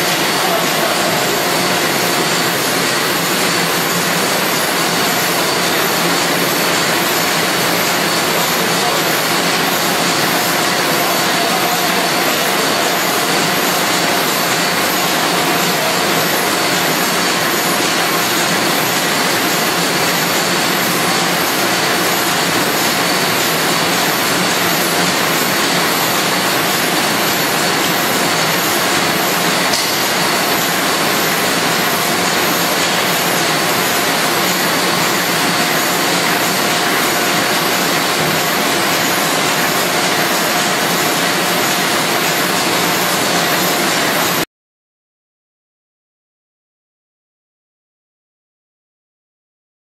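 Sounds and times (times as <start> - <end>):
envelope making machine running: 0.0 - 44.5.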